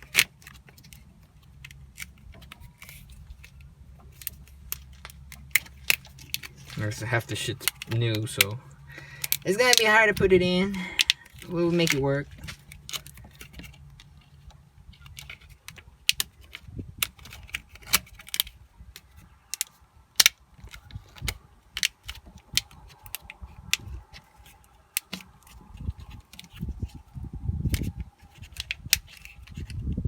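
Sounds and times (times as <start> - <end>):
clicks of wiring parts handled: 0.0 - 29.9
low rumble of handling noise: 0.0 - 30.0.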